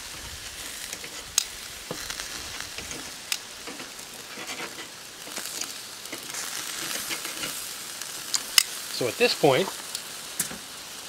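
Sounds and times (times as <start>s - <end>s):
chicken sizzling on grill: 0.0s - 11.0s.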